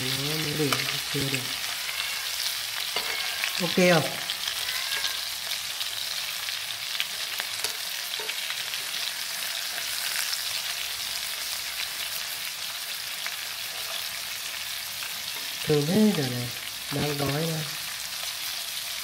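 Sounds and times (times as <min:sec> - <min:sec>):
patties sizzling in hot oil: 0:00.0 - 0:19.0.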